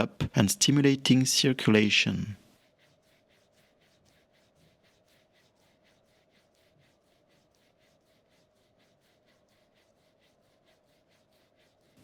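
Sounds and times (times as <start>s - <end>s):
fingers rubbing on skin: 0.7s - 12.0s.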